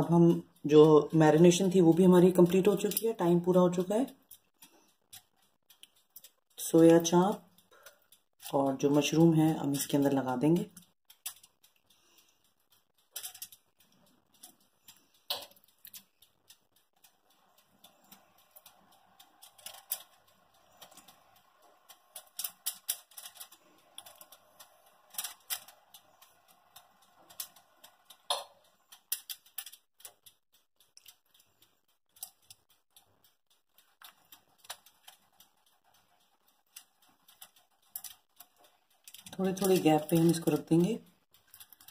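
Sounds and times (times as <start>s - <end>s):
aluminium foil crinkling: 1.3s - 41.9s.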